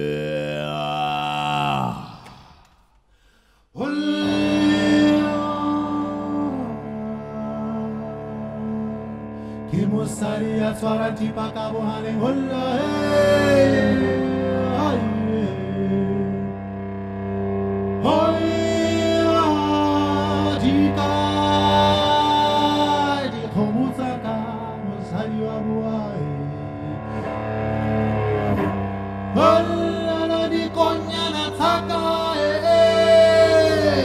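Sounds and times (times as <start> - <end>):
man singing long phrases: 0.0 - 2.3, 3.8 - 8.9, 9.7 - 16.4, 18.0 - 27.0, 29.4 - 34.0
cello low steady tone: 4.1 - 34.0.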